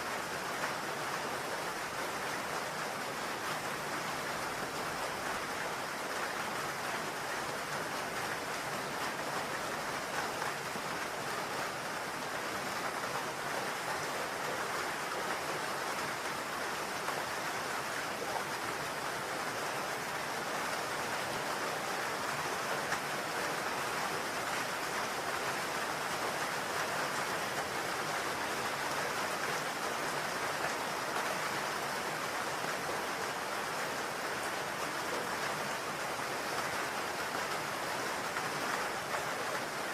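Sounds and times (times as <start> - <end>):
rain pattering on a roof: 0.0 - 39.9.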